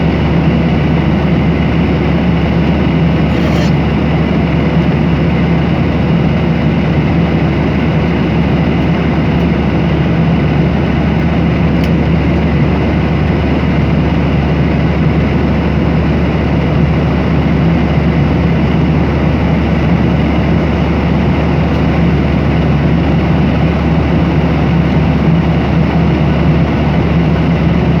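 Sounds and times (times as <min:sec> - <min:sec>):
constant low hum: 0:00.0 - 0:28.0
jet engines droning: 0:00.0 - 0:28.0.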